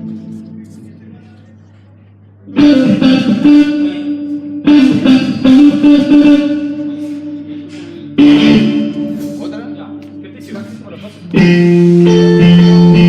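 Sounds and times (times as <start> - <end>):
electric guitar chords: 0.0 - 1.1, 2.5 - 13.0.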